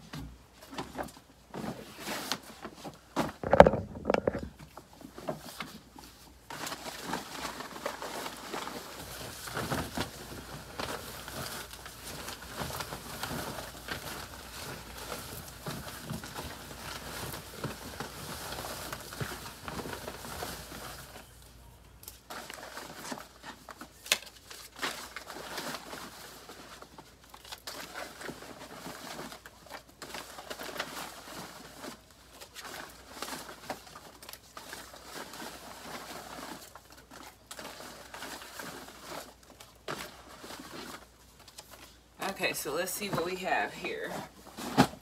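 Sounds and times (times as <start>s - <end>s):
paper rustling and crinkling: 0.0s - 45.0s.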